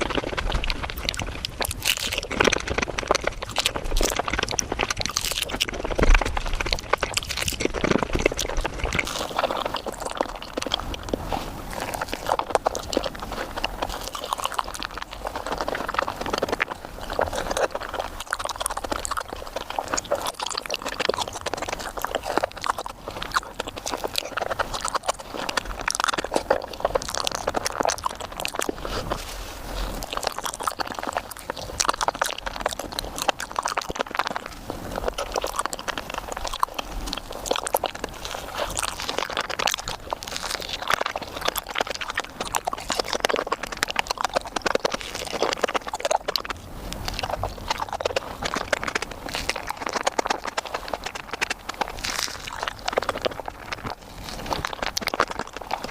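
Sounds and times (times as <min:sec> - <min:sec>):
fast wet chewing and mouth clicks: 0:00.0 - 0:55.9.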